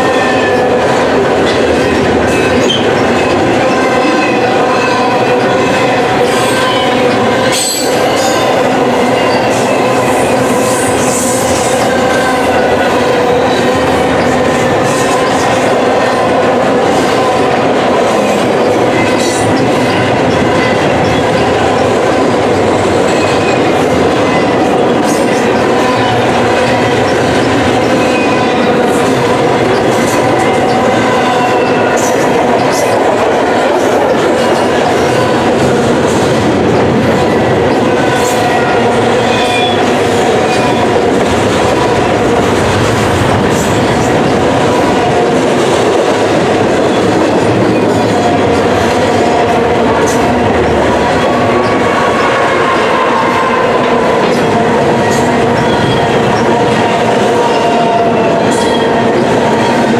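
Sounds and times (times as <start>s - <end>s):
steel wheels roaring on rail: 0.0s - 59.9s.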